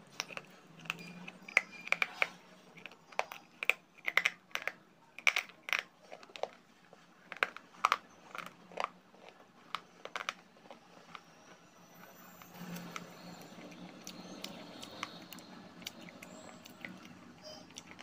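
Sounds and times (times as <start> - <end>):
chewing crunchy clay: 0.0 - 18.0.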